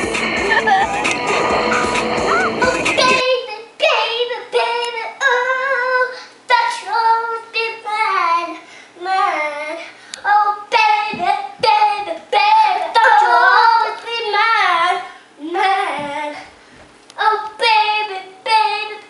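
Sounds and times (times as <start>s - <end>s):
girl singing: 1.8s - 16.6s, 17.2s - 19.0s.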